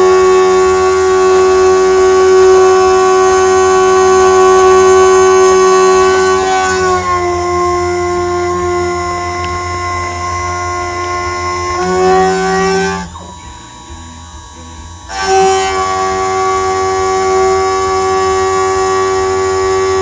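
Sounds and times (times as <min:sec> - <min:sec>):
endmill squealing while cutting: 0:00.0 - 0:20.0.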